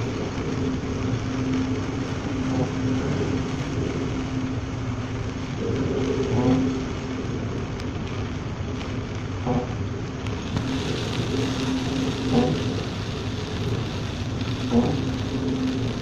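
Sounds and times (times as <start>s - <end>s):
ship engine drone: 0.0s - 16.0s
wind and heavy sea: 0.0s - 16.0s.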